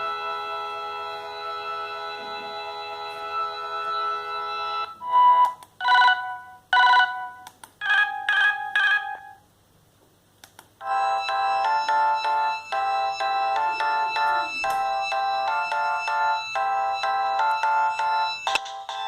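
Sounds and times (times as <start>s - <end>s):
organ-like ringtone chord: 0.0s - 7.2s, 10.8s - 19.0s
electronic ringtone tune: 0.0s - 9.4s, 10.8s - 19.0s.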